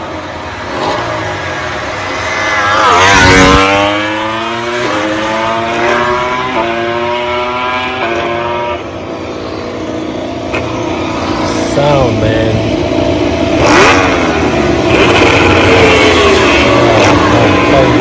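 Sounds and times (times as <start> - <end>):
motorcycle engines shifting gears: 0.0 - 18.0
racing motorcycles passing: 0.0 - 18.0.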